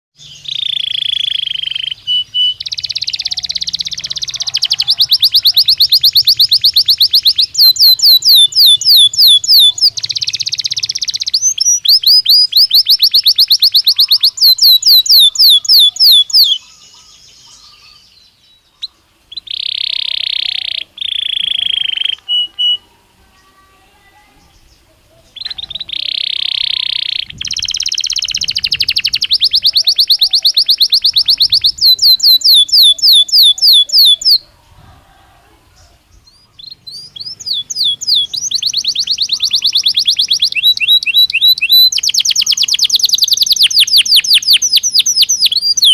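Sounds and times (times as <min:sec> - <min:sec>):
canary singing rapid trills: 0:00.2 - 0:22.9, 0:24.5 - 0:34.5, 0:36.1 - 0:45.9.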